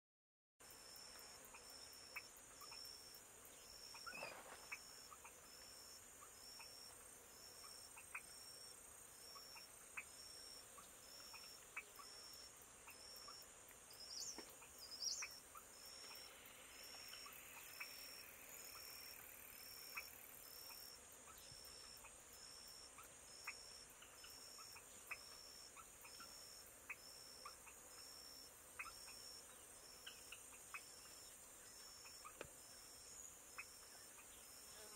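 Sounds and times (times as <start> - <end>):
high-pitched insect chirp: 0.6 - 34.9.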